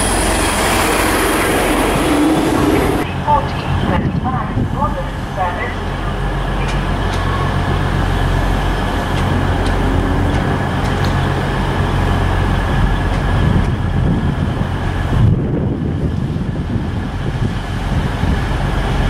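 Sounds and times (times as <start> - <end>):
diesel train engines droning: 0.0 - 19.0.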